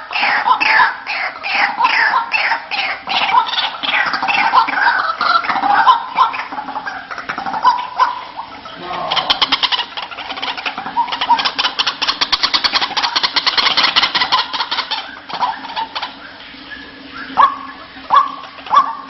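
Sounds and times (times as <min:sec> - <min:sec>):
bird calling harsh repeated notes: 0:00.1 - 0:19.0.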